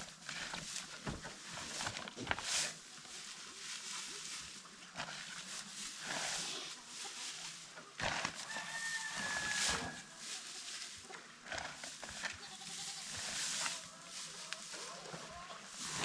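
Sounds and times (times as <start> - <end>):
rustling and handling noises: 0.0 - 11.1, 13.0 - 16.0
farmyard animals: 0.0 - 16.0.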